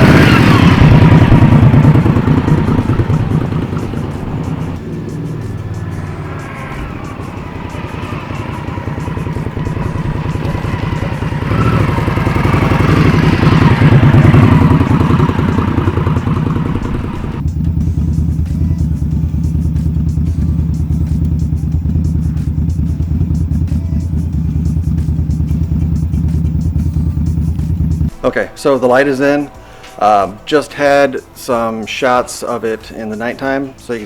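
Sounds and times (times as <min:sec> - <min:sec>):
motorcycle engine running: 0:00.0 - 0:28.2.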